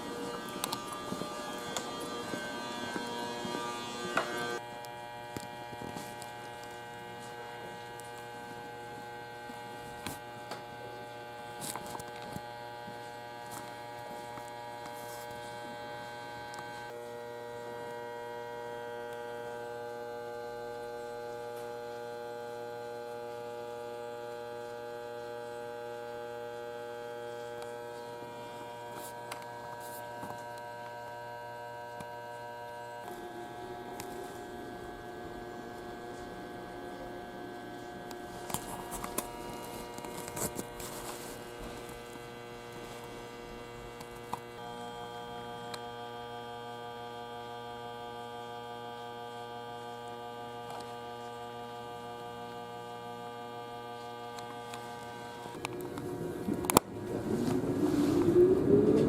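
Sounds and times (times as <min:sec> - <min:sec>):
electrical hum with held tones: 0:00.0 - 0:59.0.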